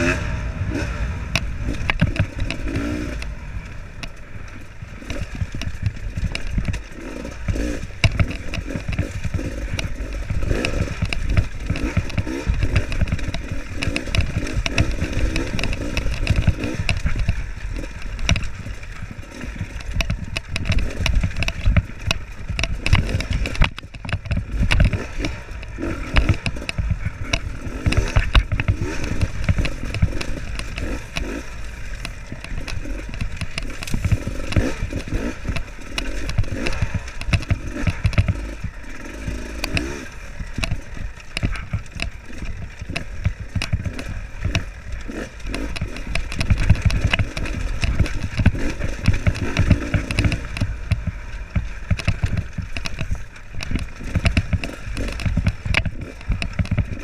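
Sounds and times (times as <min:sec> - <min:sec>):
dirt bike engine at low revs: 0:00.0 - 0:57.0
rattling and knocking over rocks: 0:00.8 - 0:57.0.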